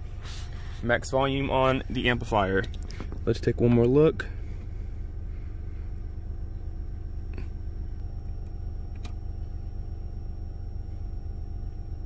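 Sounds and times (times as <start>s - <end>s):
deep subwoofer test tone hum: 0.0s - 12.0s.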